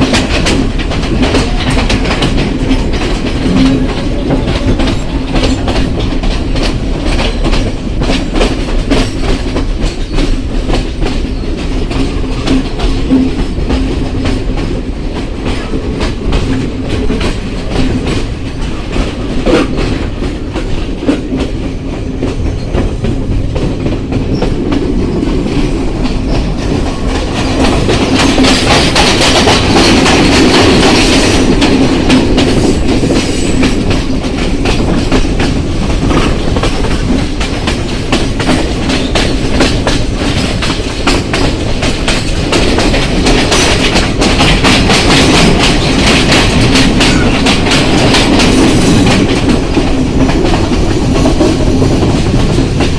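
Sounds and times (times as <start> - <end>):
train wheels clicking on rails: 0.0 - 52.9.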